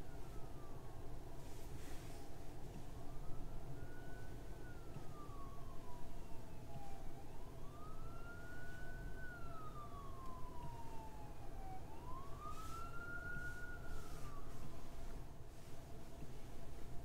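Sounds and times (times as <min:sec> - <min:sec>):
emergency siren wailing: 0:00.0 - 0:01.7, 0:02.5 - 0:15.5
steady low hum: 0:00.0 - 0:17.0.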